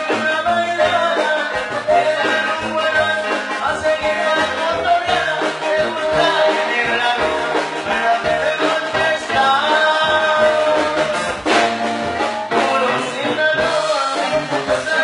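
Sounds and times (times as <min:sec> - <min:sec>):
latin band music: 0:00.0 - 0:15.0.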